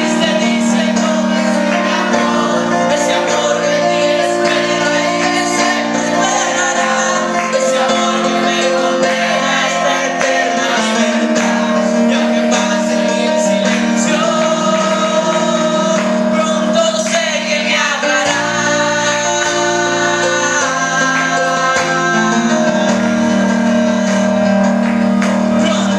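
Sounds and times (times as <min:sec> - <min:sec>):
instrumental accompaniment: 0:00.0 - 0:25.9
person singing worship song: 0:00.0 - 0:25.9.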